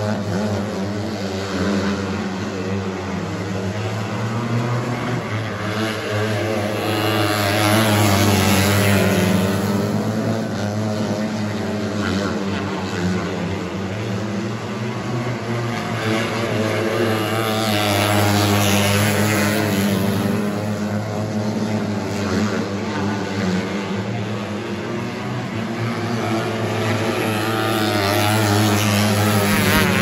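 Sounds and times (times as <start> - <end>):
race car engines at high revs: 0.0 - 30.0.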